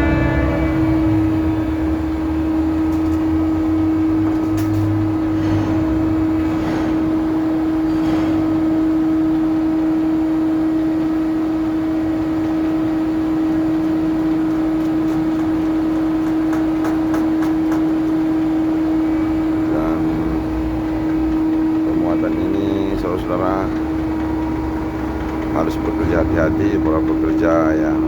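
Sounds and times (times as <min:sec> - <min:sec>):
loud machinery hum: 0:00.0 - 0:28.0.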